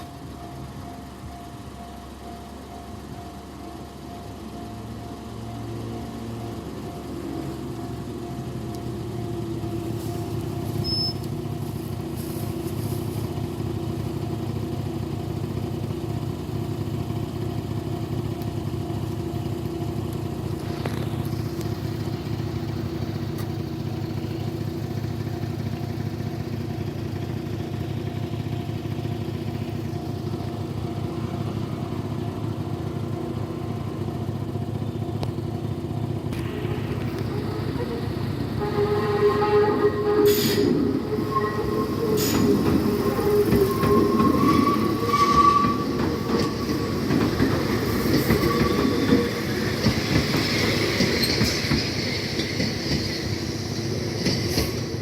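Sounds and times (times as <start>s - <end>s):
vehicle engine idling: 0.0s - 50.4s.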